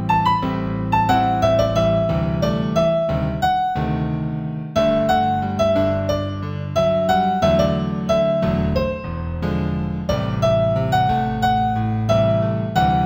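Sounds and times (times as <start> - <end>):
solo piano piece: 0.0 - 13.0.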